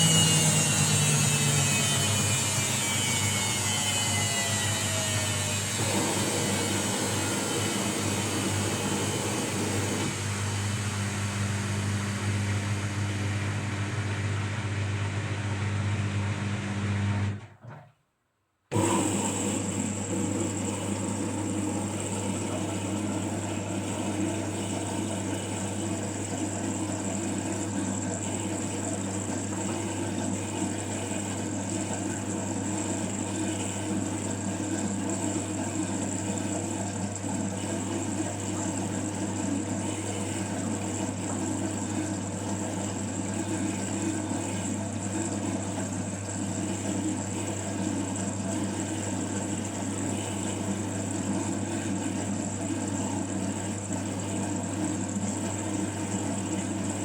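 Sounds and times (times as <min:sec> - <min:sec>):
washing machine motor hum: 0:00.0 - 0:17.9, 0:18.7 - 0:57.0.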